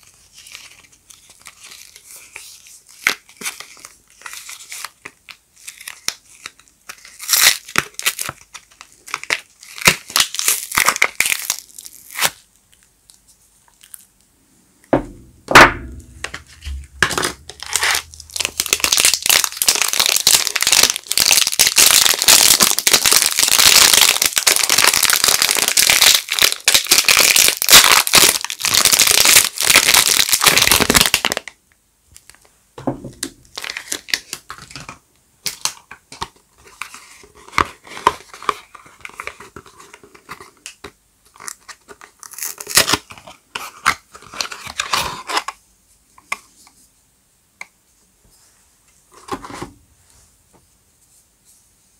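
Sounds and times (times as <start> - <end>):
plastic wrapper crinkling: 0.0 - 14.3, 15.5 - 31.6, 33.1 - 45.6.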